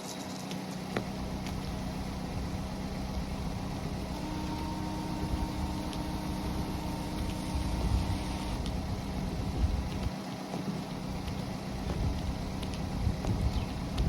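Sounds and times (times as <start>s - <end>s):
car engine idling: 0.4s - 14.0s.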